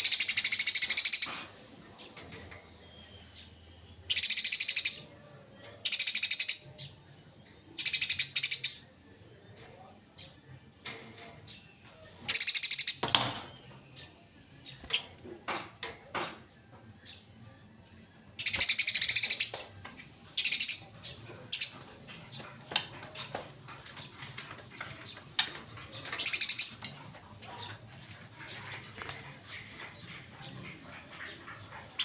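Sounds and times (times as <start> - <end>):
sparrow chirps: 0.0 - 9.2, 11.2 - 15.3, 18.2 - 32.0
sparrows chattering: 0.0 - 32.0.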